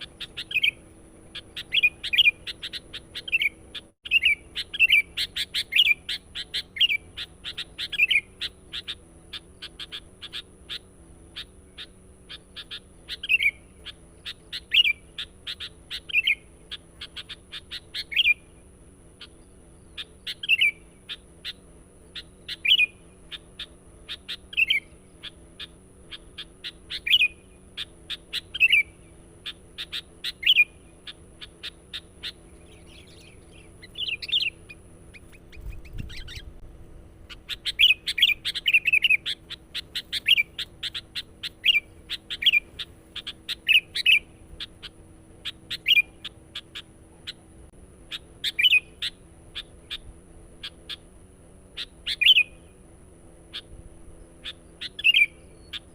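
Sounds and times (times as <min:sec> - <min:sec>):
bulbul calling: 0:00.0 - 0:36.6, 0:37.2 - 0:55.9
faint high whine: 0:00.0 - 0:55.9.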